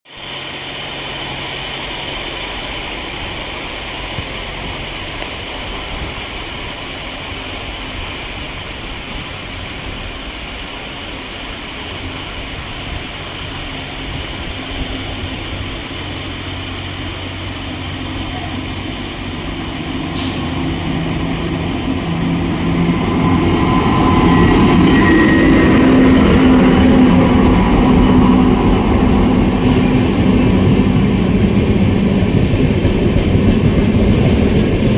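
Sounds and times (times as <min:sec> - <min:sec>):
electric train humming and whining: 0:00.1 - 0:34.9
steady rain falling: 0:00.1 - 0:34.9.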